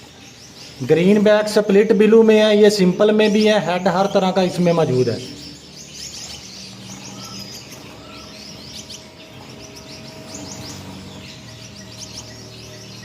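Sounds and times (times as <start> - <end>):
finches chirping: 0.0 - 13.0.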